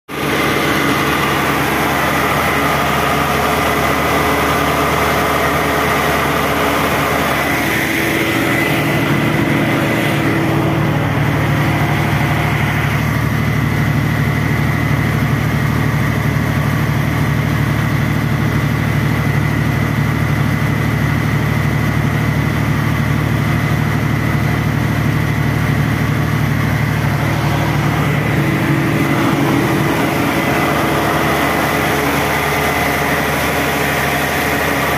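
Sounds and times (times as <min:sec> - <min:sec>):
diesel generator droning: 0:00.1 - 0:34.9.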